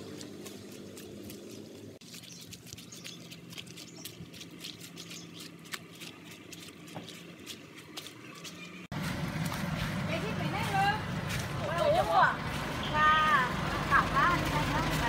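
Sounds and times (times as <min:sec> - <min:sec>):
footsteps on dry leaves: 0:00.0 - 0:15.0
low hum: 0:00.0 - 0:15.0.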